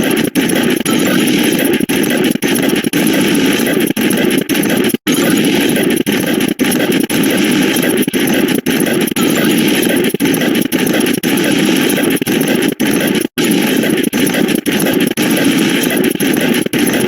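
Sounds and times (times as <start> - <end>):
overlapping digital sound effects: 0.0 - 17.0.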